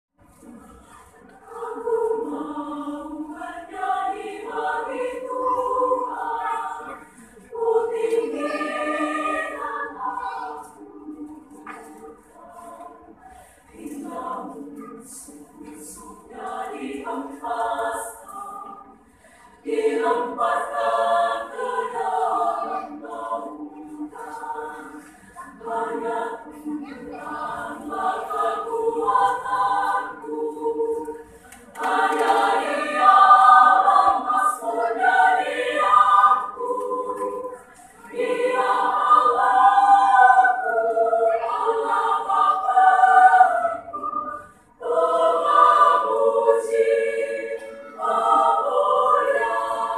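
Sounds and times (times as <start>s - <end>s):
women's choir singing a hymn: 0.2s - 49.9s.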